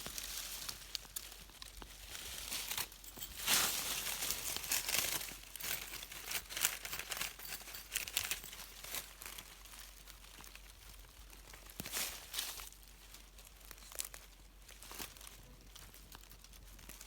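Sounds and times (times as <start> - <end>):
leaf litter and soil rustling: 0.0 - 17.0.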